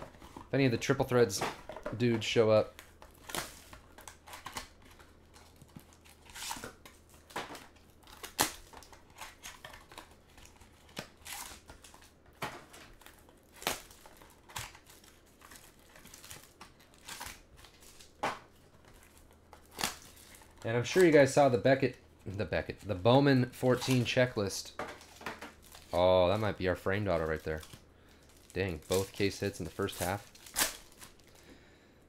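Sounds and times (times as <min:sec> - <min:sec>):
plastic wrap crinkling and tearing: 0:00.0 - 0:31.5.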